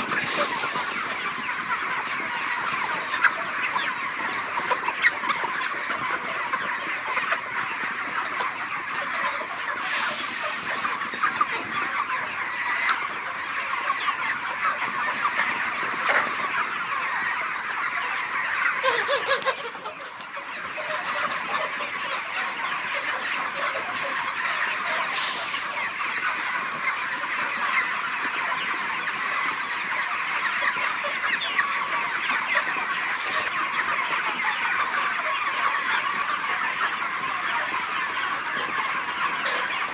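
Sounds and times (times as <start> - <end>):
flock of chickens calling: 0.0 - 39.9.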